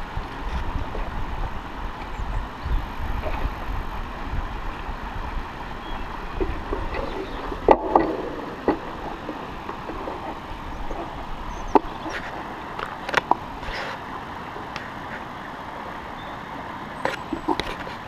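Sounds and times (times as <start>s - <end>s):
wind rumbling on microphone: 0.0s - 16.3s, 17.0s - 18.0s.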